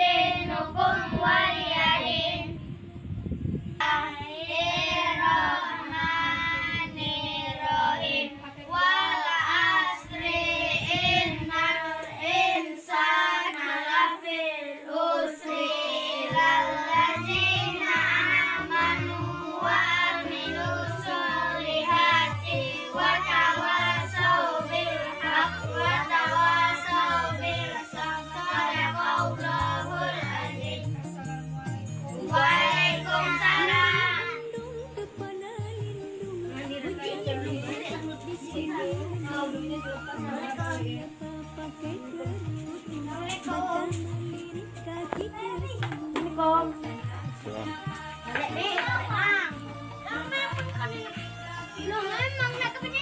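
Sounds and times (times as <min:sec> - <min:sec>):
child singing over music: 0:00.0 - 0:02.6, 0:03.8 - 0:53.0.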